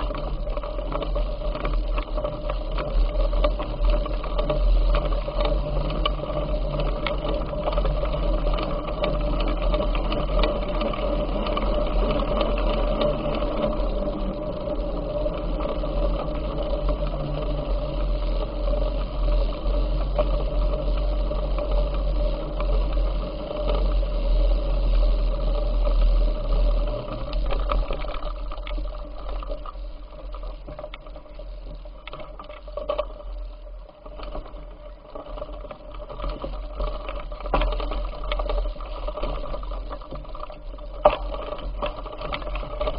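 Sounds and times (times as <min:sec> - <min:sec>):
bicycle whirr and rattle: 0:00.0 - 0:42.9
wind rumble on microphone: 0:00.0 - 0:42.9.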